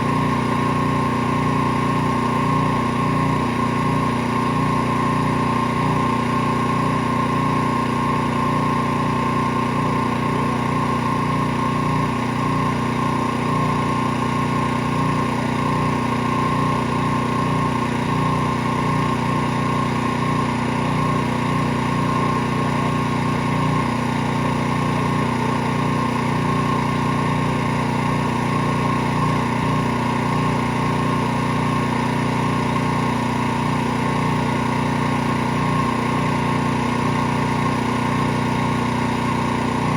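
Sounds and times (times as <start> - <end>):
pressure washer engine droning: 0.0 - 39.9.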